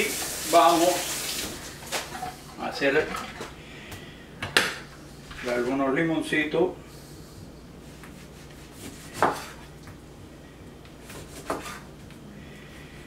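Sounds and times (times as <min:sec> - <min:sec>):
faint steady hum: 0:01.2 - 0:13.0.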